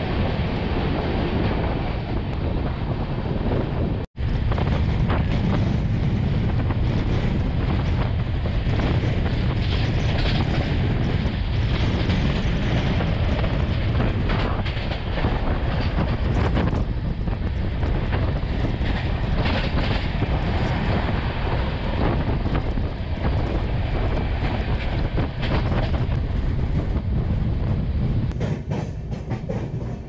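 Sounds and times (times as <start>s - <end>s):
train rumbling at speed: 0.0s - 30.0s
wind buffeting microphone: 0.0s - 30.0s.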